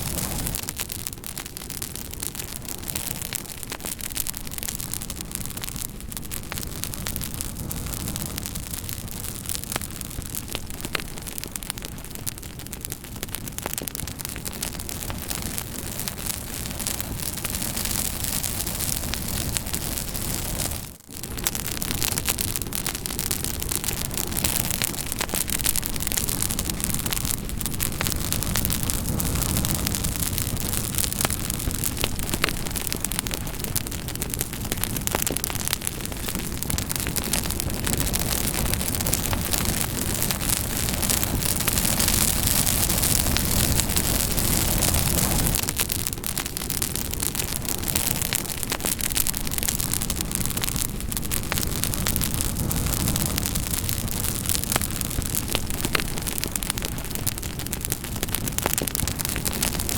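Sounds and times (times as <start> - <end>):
campfire crackling and popping: 0.0 - 59.9
fire hissing: 0.0 - 59.9.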